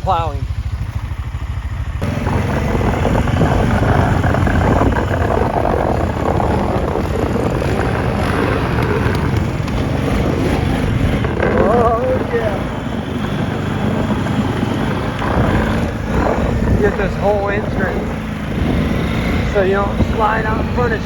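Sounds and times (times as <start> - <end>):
atv engine running under load: 0.0 - 21.0
steady rushing noise: 0.0 - 21.0.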